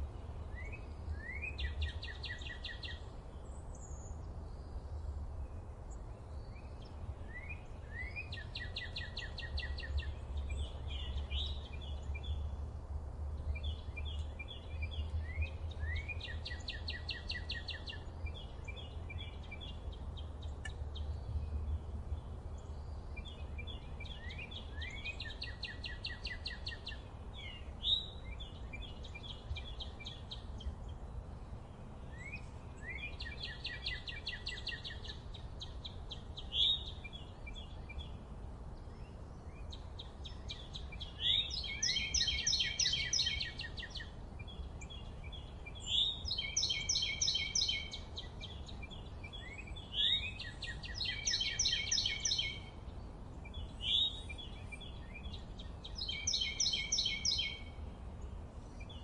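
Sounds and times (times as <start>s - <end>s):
songbird singing with trill: 0.0s - 59.0s.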